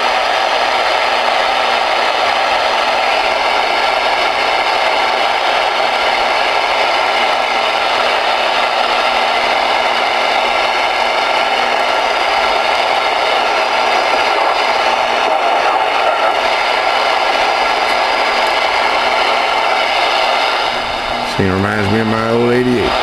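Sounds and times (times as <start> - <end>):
radio static hissing: 0.0 - 23.0.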